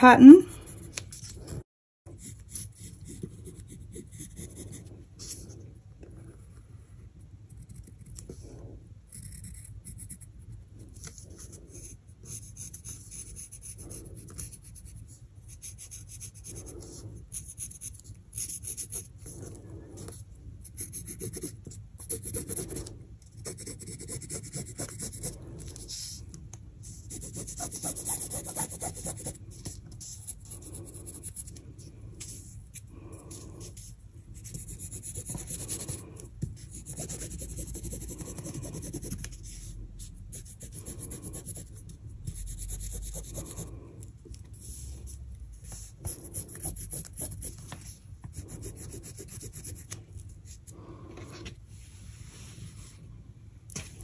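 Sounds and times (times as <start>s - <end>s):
pencil scratching on fabric: 0.0s - 43.9s, 44.6s - 51.5s.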